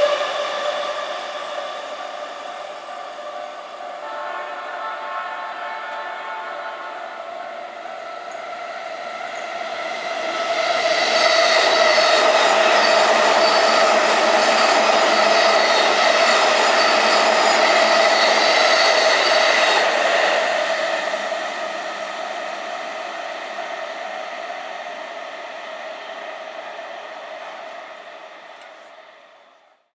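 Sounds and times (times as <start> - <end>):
electric train passing: 0.0 - 29.9.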